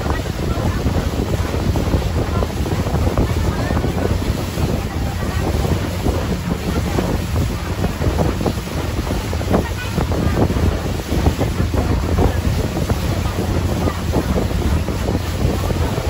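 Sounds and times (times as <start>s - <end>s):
water slapping against hull: 0.0s - 16.0s
wind buffeting microphone: 0.0s - 16.0s.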